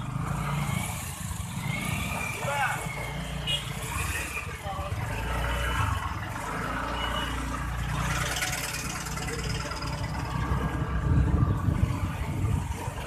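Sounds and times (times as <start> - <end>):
traffic engines idling: 0.0 - 13.0.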